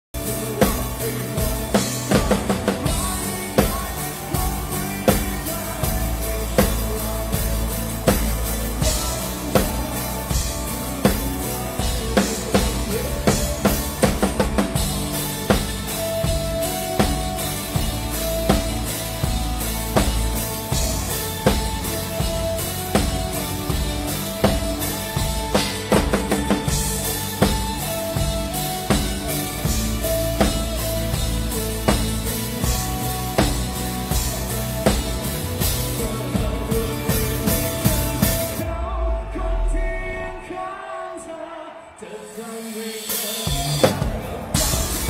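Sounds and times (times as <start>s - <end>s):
live rock band: 0.0s - 45.0s.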